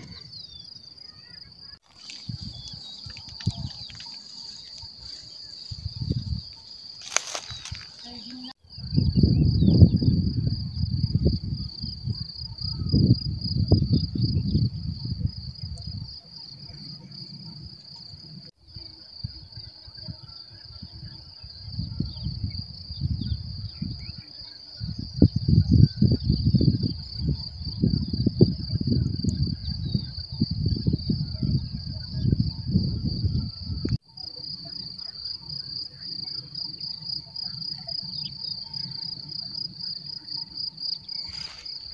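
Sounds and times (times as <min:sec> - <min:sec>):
crickets chirring: 0:00.0 - 0:41.9.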